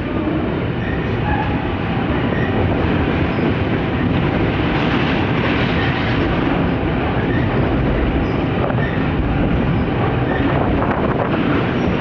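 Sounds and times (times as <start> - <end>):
freight train wheels on rails: 0.0 - 12.0.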